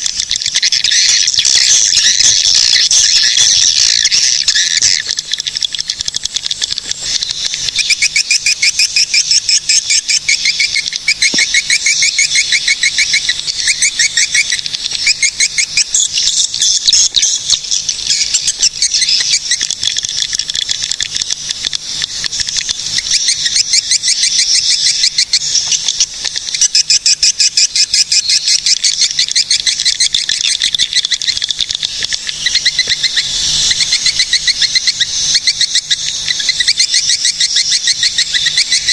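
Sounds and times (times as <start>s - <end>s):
swiftlets twittering: 0.0s - 38.9s.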